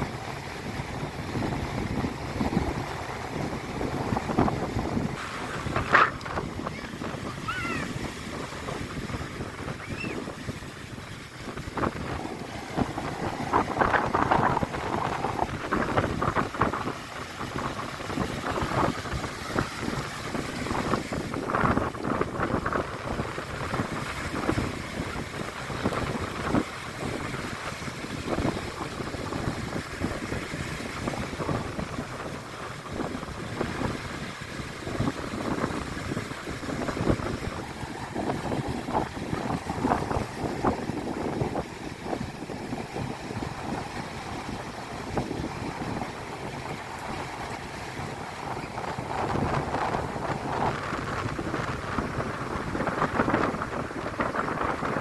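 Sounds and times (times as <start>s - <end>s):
sea washing: 0.0s - 55.0s
wind buffeting microphone: 0.0s - 55.0s.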